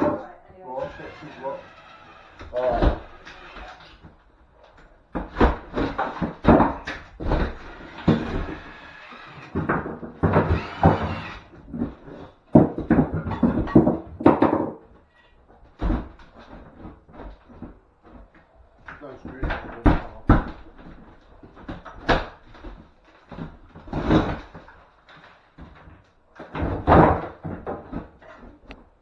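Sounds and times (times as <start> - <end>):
wooden boards knocking and thudding: 1.0 - 4.2, 5.1 - 18.4, 19.2 - 24.9, 25.5 - 29.0.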